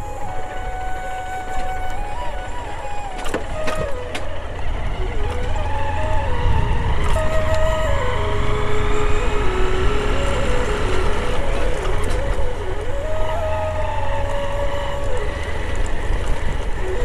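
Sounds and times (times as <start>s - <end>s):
low rumble of wind and road: 0.0s - 17.0s.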